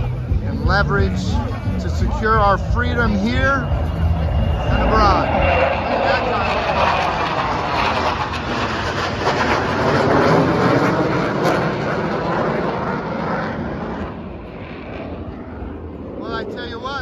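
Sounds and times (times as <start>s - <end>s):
jet engines flying over: 0.0s - 17.0s.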